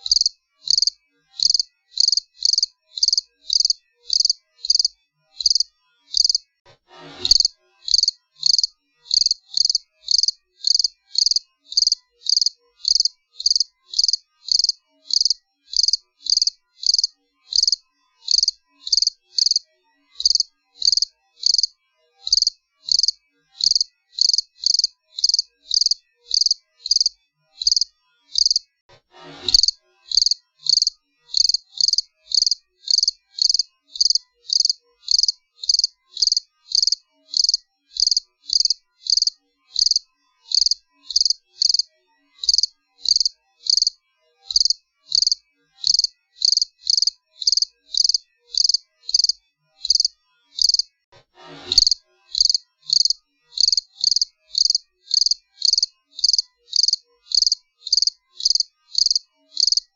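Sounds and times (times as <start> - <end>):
cricket chirping: 0.0 - 6.4, 7.3 - 19.6, 20.2 - 21.7, 22.3 - 28.6, 29.5 - 50.9, 51.8 - 59.9.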